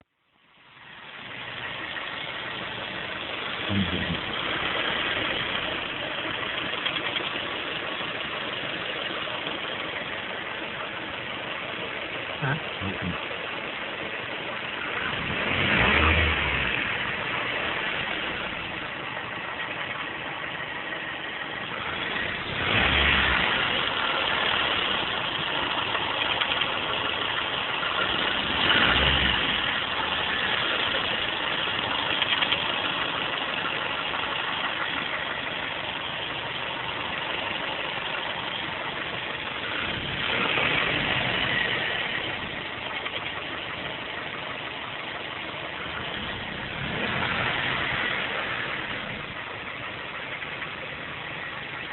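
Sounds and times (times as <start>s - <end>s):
car engine knocking: 0.9s - 51.9s
engine revving: 1.3s - 10.3s, 11.1s - 14.0s, 14.6s - 35.2s, 39.0s - 44.6s, 45.7s - 51.8s.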